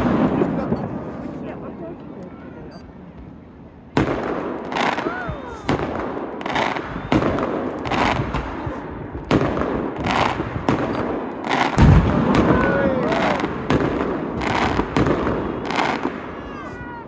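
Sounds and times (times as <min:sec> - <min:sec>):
fireworks bursting with crackles: 0:00.0 - 0:01.8, 0:03.1 - 0:17.0.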